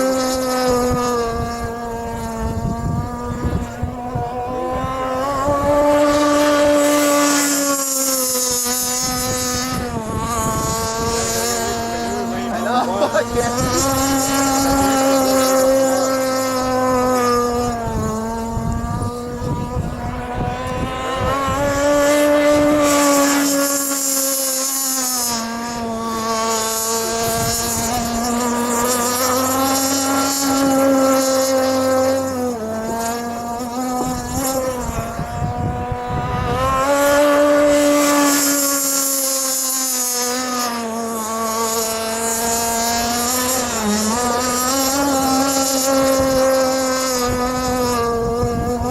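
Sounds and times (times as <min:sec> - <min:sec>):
model boat engine running: 0:00.0 - 0:48.9.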